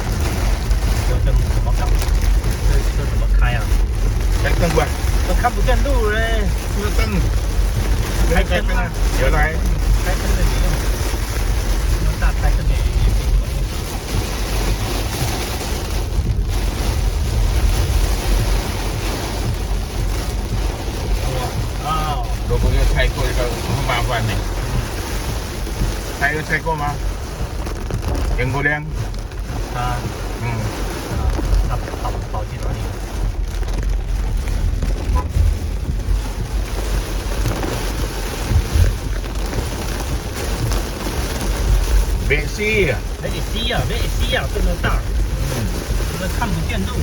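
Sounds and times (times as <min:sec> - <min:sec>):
heavy rain on a car: 0:00.0 - 0:47.0
low road rumble: 0:00.0 - 0:47.0.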